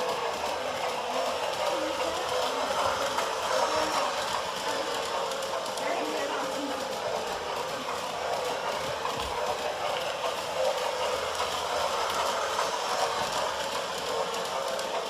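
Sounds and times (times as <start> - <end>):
toy train clattering on track: 0.0 - 15.0.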